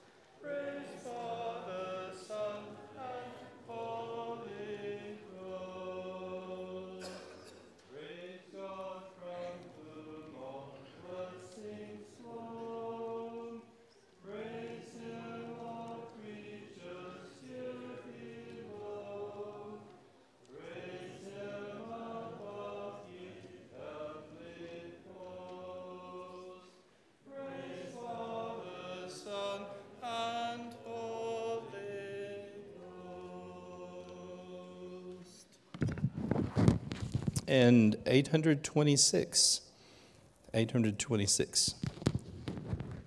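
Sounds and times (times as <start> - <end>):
congregation singing a hymn: 0.0 - 36.0.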